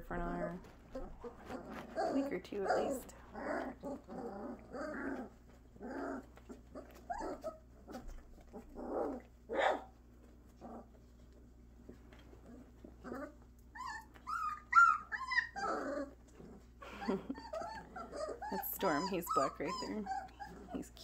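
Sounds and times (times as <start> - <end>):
puppies grunting and growling: 0.2 - 21.0
puppies whining: 0.7 - 21.0.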